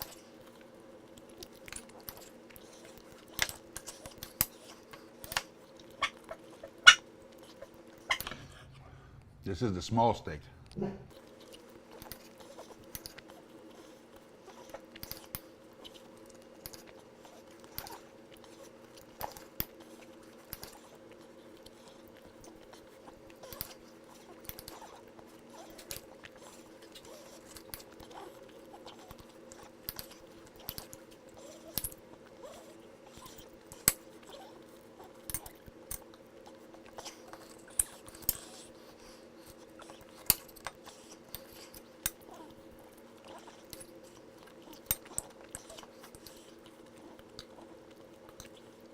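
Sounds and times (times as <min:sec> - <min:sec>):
chewing: 0:00.0 - 0:09.3, 0:10.6 - 0:48.9
steady hum: 0:00.0 - 0:48.9.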